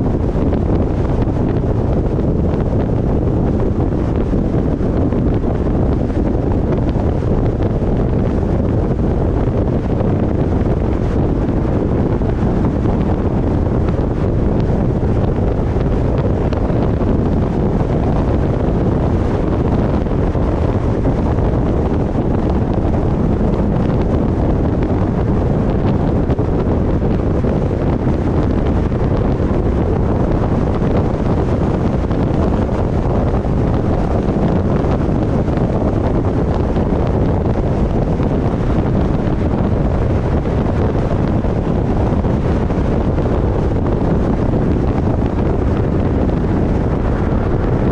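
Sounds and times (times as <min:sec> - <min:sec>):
wind buffeting camera: 0:00.0 - 0:47.9.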